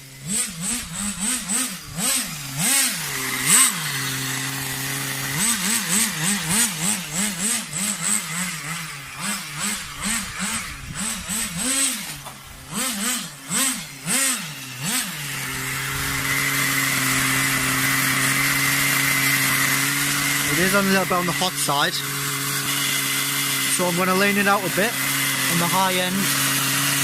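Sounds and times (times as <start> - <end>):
model car engine revving and idling: 0.0 - 27.0.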